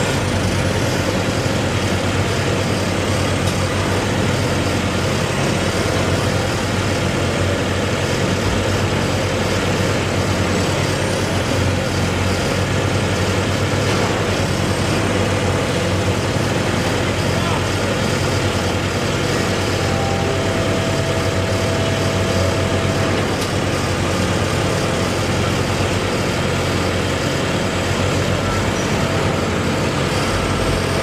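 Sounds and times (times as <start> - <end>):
heavy engine running: 0.0 - 31.0.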